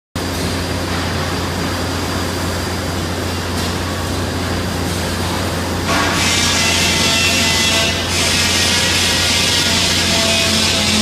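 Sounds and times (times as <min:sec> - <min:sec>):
machinery humming: 0:00.2 - 0:11.0.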